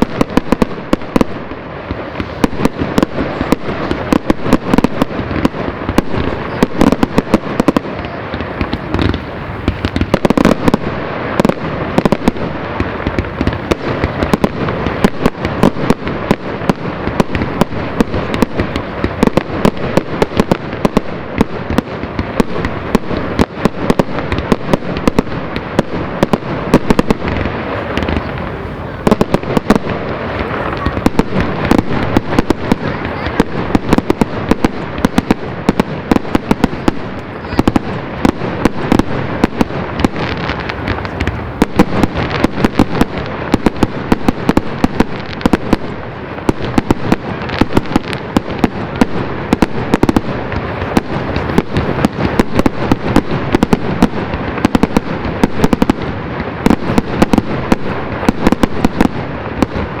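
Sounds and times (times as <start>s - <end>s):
fireworks cracks and bangs: 0.0s - 60.0s.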